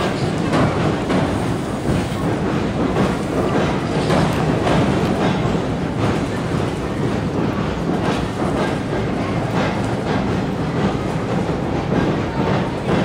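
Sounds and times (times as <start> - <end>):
train rumbling over bridge: 0.0 - 13.0
wheels clacking over rail joints: 0.0 - 13.0.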